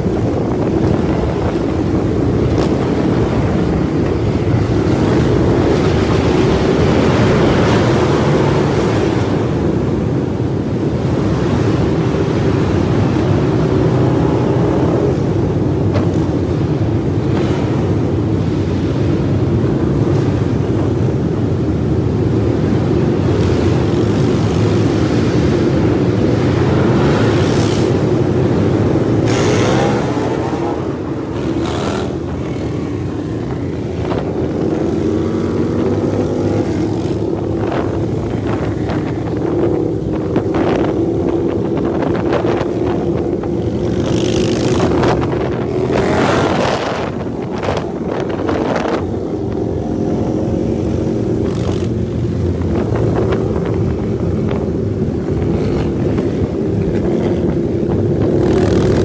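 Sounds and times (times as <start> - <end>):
motorcycle engines accelerating: 0.0 - 59.0
wind on microphone: 0.0 - 59.0.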